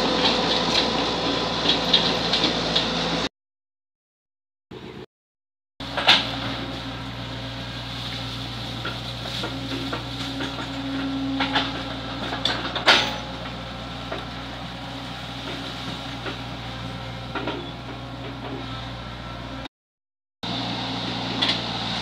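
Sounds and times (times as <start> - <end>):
excavator diesel engine humming: 0.0 - 3.3, 5.8 - 19.7, 20.4 - 22.0.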